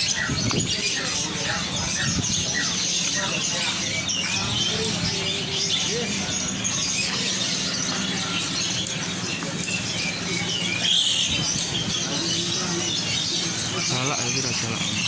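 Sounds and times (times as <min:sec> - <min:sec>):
caged birds chirping: 0:00.0 - 0:15.0.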